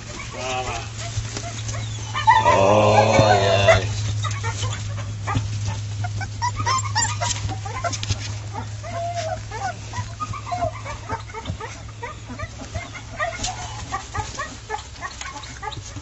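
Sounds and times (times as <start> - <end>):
dog whining cry: 0.0 - 16.0
puppies squeaking and whimpering: 0.0 - 16.0.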